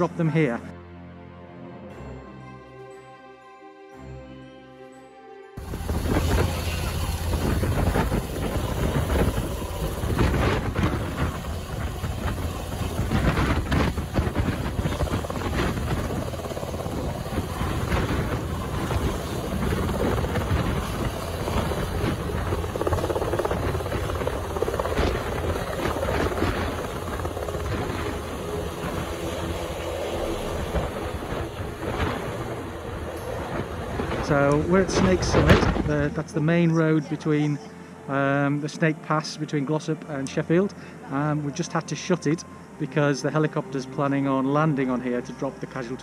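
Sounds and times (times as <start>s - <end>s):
helicopter rotor and turbine noise: 5.6s - 46.0s.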